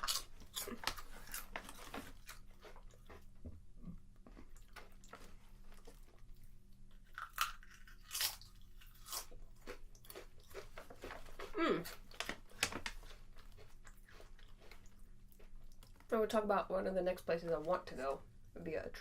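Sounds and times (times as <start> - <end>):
chewing potato chips: 0.0 - 16.1.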